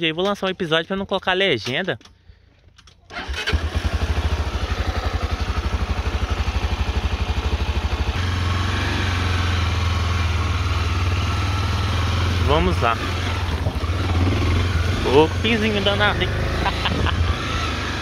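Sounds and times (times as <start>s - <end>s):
motorcycle engine running: 3.4s - 18.0s.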